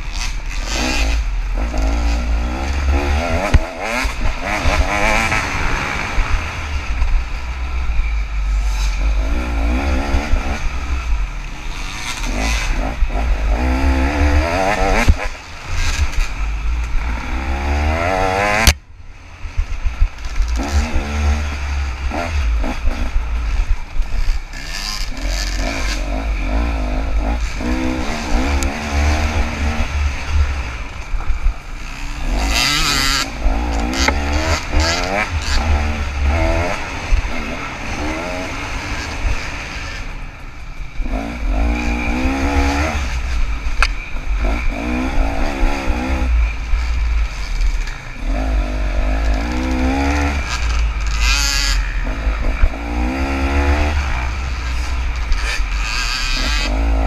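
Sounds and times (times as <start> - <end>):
dirt bike engine revving: 0.0 - 18.8, 19.5 - 57.0.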